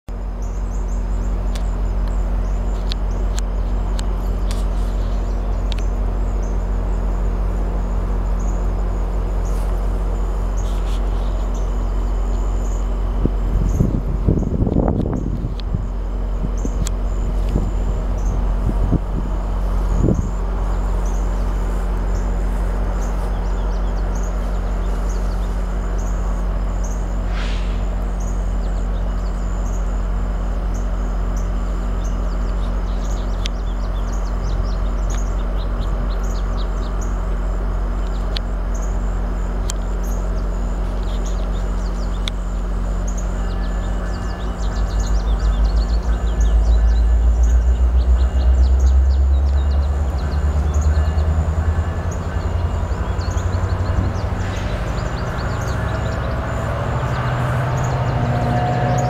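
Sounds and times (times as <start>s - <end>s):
low mechanical hum: 0.0s - 59.0s
small birds chirping: 0.2s - 59.0s.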